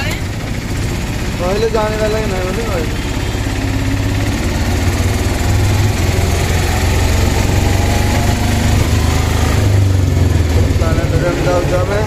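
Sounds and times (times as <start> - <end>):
auto-rickshaw engine running: 0.0 - 12.0
road noise: 0.0 - 12.0.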